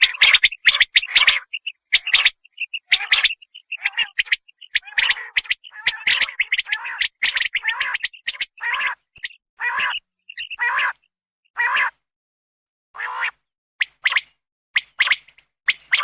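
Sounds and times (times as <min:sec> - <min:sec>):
quail calls: 0:00.0 - 0:12.0, 0:13.0 - 0:14.3, 0:15.0 - 0:16.0.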